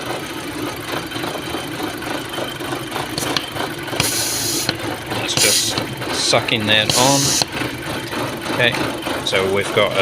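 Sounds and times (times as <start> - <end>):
car engine idling with misfires: 0.0 - 10.0.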